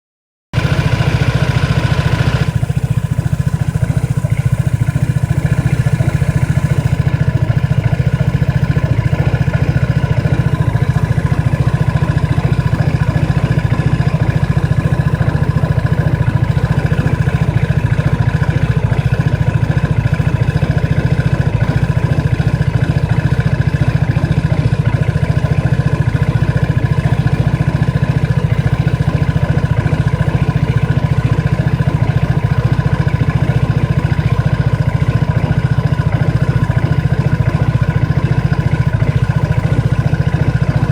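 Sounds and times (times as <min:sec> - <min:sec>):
engine idling: 0:00.6 - 0:40.9.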